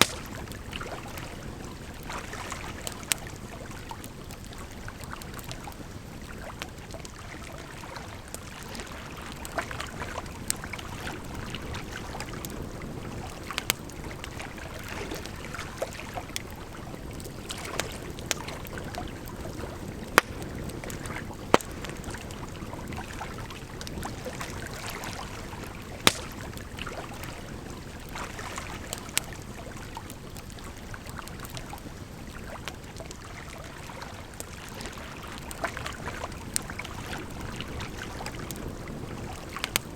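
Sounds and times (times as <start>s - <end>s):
campfire crackling and popping: 0.0s - 39.9s
flowing water: 0.0s - 39.9s.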